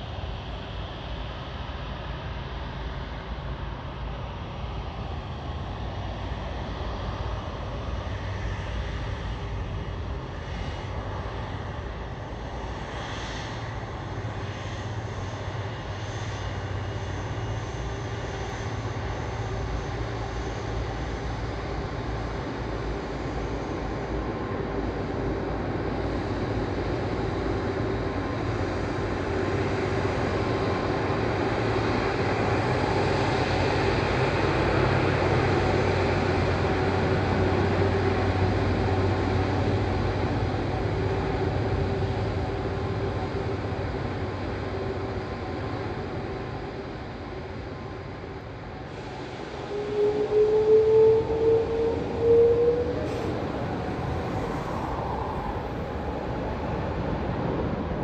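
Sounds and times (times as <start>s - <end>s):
jet engines rumbling and whining: 0.0s - 58.0s.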